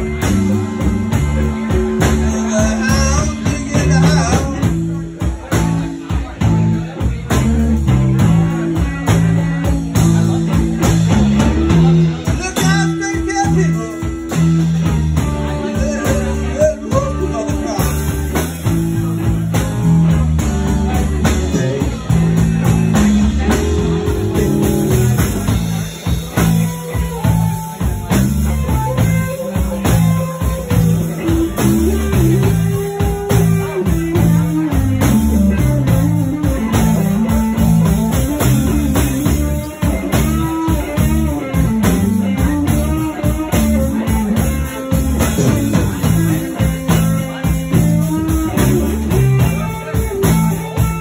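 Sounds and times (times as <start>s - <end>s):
blues electric guitar: 0.0s - 51.0s.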